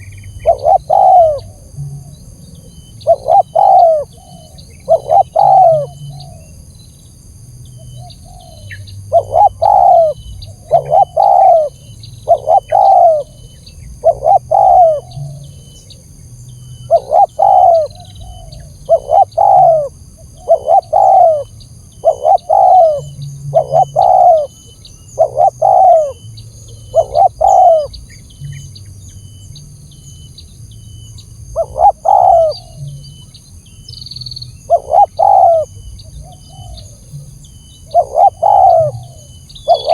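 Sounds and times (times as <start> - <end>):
dove cooing: 0.0 - 6.6, 7.8 - 29.3, 31.5 - 33.3, 34.6 - 39.9.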